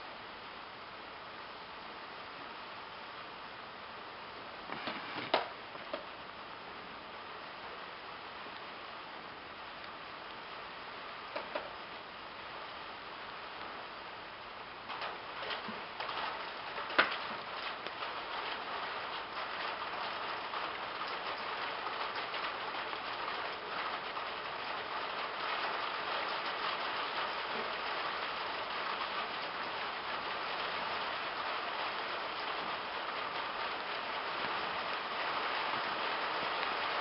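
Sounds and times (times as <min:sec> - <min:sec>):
light rain pattering: 0:00.0 - 0:37.0.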